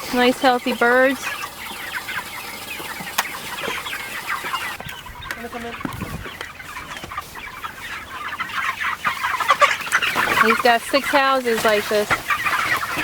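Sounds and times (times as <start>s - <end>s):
chickens clucking and peeping: 0.0s - 13.0s.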